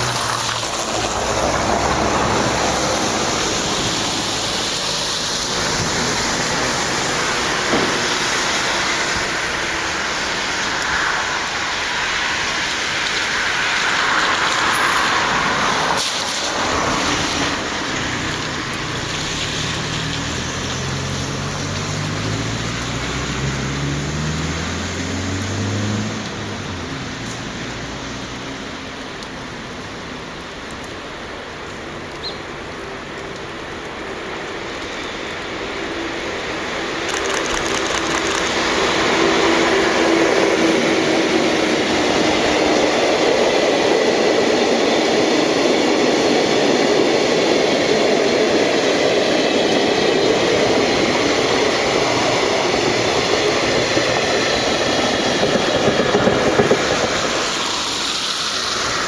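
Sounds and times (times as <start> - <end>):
freight train rumbling past: 0.0 - 28.9, 35.2 - 59.0.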